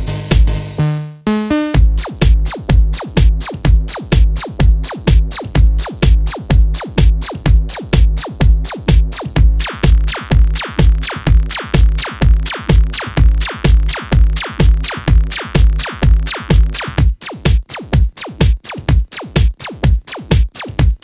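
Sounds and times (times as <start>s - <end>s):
techno music: 0.0s - 21.0s.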